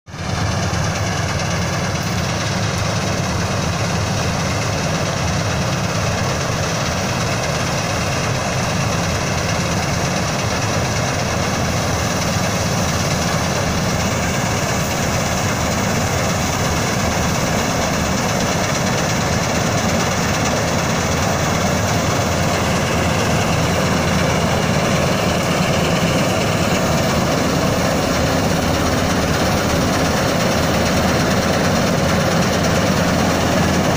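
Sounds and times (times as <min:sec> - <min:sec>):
combine harvester droning: 0:00.1 - 0:33.9.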